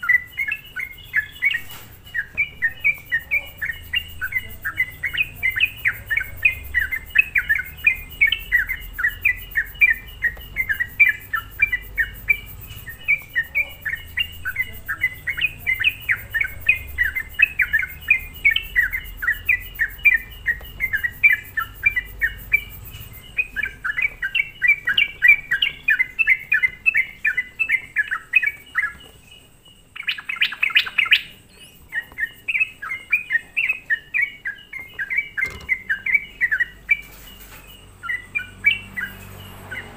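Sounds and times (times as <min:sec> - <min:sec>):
bird harsh chatter: 0:00.0 - 0:39.9
bulbul singing rapid chirps: 0:00.0 - 0:39.9.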